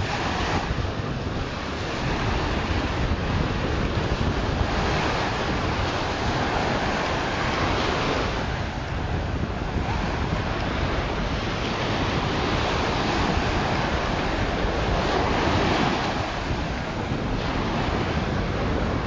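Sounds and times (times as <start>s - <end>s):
surf washing over sand: 0.0s - 19.0s
wind buffeting microphone: 0.0s - 19.0s.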